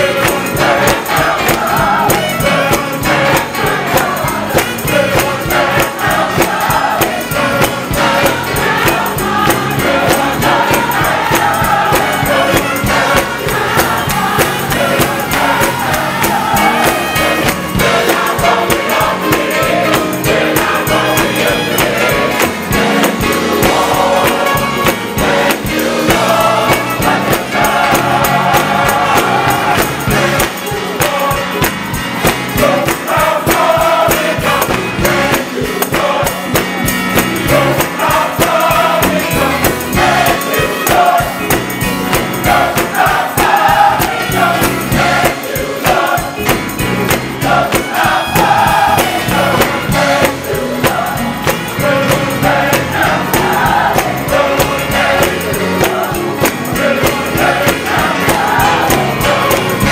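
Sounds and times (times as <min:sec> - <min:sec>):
gospel choir and congregation singing: 0:00.0 - 0:59.9
hand clapping on a steady beat: 0:00.0 - 0:59.9.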